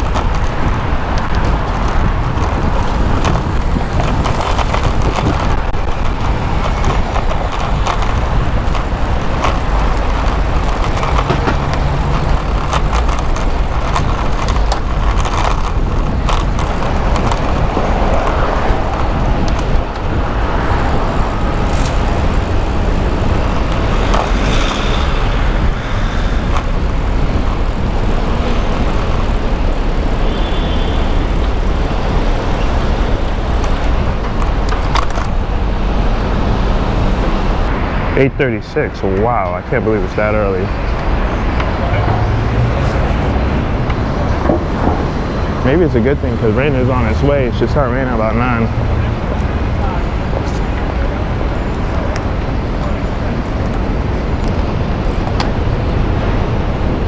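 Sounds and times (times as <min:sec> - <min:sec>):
passing cars and trucks: 0:00.0 - 0:57.0
wind rumble on microphone: 0:00.0 - 0:57.0.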